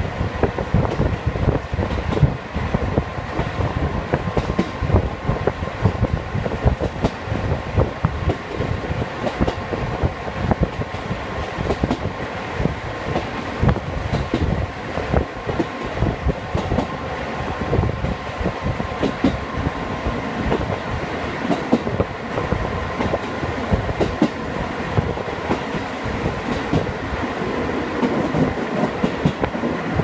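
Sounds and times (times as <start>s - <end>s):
railcar rumble: 0.0s - 30.0s.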